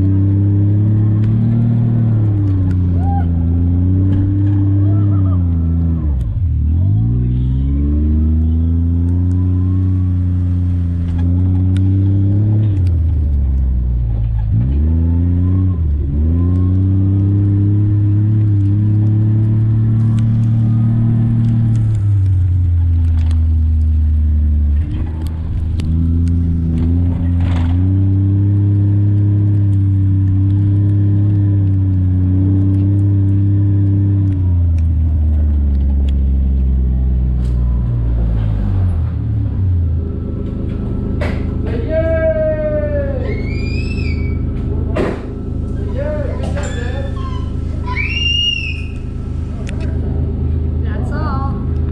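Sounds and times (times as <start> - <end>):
atv engine revving: 0.0 - 51.9.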